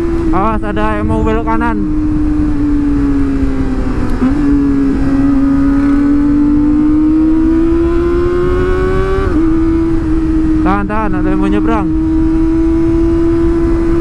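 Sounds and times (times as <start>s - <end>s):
motorcycle engine at high revs: 0.0s - 14.0s
wind rumble on microphone: 0.0s - 14.0s.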